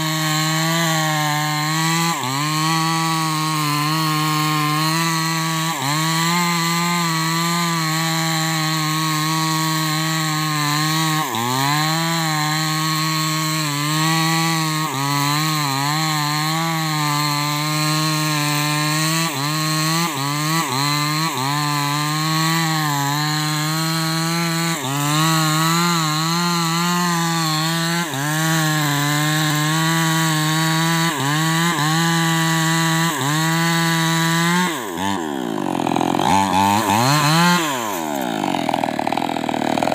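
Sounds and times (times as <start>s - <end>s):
chainsaw cutting hardwood: 0.0s - 39.9s.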